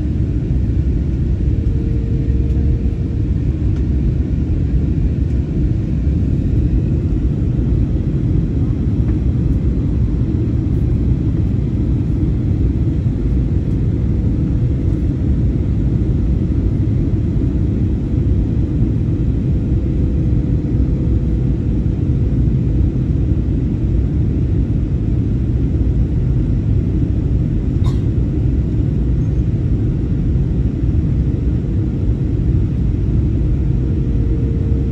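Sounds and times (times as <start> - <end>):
faint steady hum: 0.0 - 34.9
jet engines and airflow rumble: 0.0 - 34.9.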